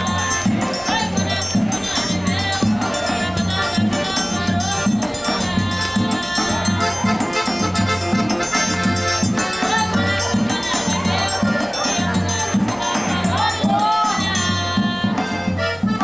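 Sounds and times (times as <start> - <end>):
accordion melody: 0.0 - 16.0
person singing: 0.0 - 16.0.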